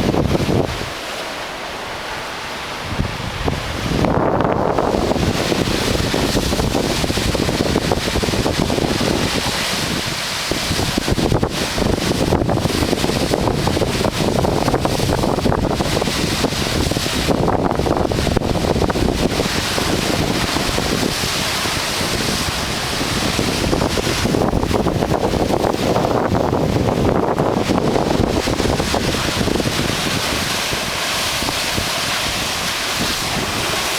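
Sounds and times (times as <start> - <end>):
rough surf: 0.0 - 33.9
strong wind buffeting microphone: 0.0 - 33.9.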